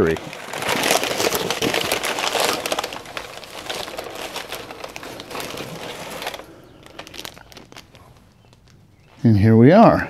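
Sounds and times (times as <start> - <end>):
tissue paper rustling and crumpling: 0.0 - 8.8.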